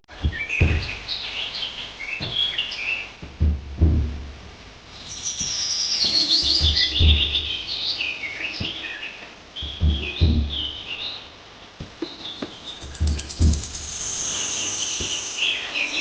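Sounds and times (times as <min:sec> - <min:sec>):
low thumps: 0:00.0 - 0:08.9, 0:09.5 - 0:11.0, 0:12.7 - 0:15.2
small birds chirping: 0:00.1 - 0:04.3, 0:04.9 - 0:16.0.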